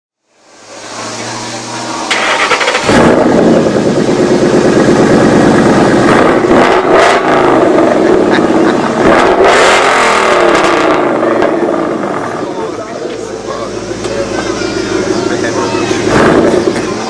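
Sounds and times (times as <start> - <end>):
car engine revving: 0.3 - 17.0.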